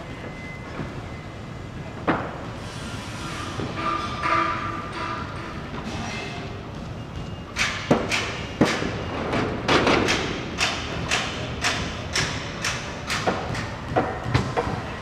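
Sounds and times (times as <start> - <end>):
construction site din: 0.0 - 15.0.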